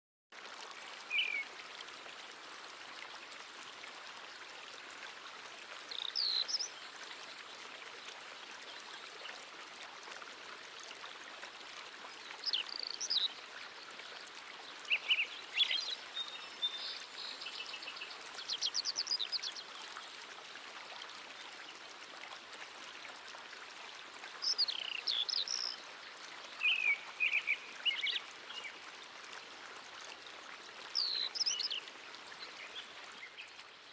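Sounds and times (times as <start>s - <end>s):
flowing stream: 0.3s - 33.9s.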